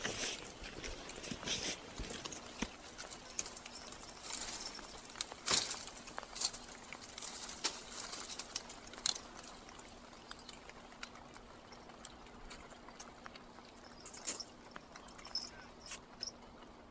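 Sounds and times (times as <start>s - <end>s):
dry twigs crackling and snapping: 0.0s - 16.3s.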